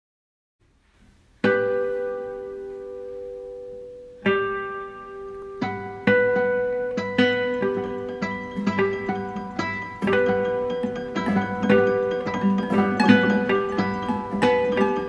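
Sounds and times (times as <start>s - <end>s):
plucked guitar chords: 1.4s - 15.0s.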